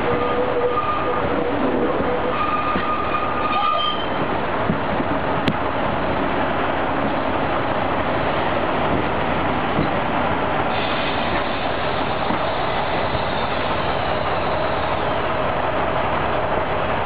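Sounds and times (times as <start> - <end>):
train wheels rumbling and rattling: 0.0 - 17.0.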